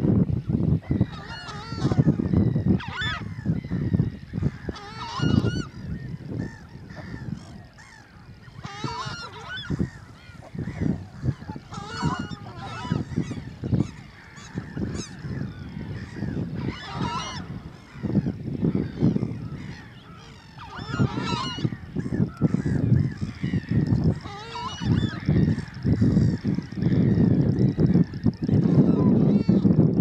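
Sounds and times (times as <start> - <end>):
waterbirds calling: 0.6 - 29.8.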